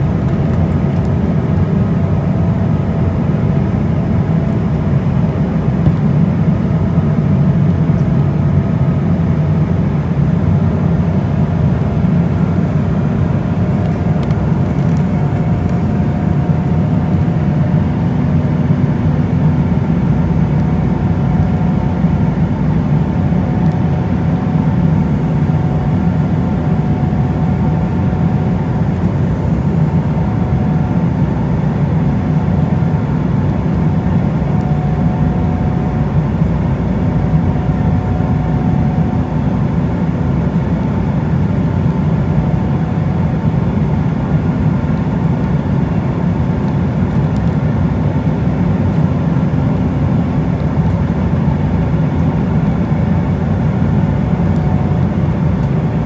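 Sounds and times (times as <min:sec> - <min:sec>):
jet engine drone and rushing air: 0:00.0 - 0:56.0.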